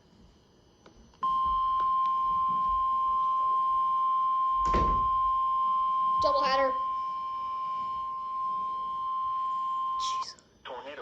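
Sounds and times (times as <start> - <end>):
steady alarm beep tone: 1.2 - 10.3.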